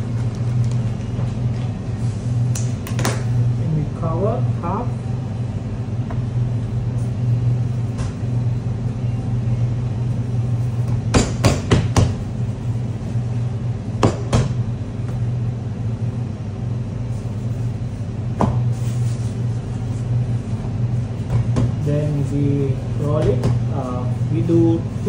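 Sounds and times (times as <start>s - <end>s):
kitchen machinery humming: 0.0s - 25.0s.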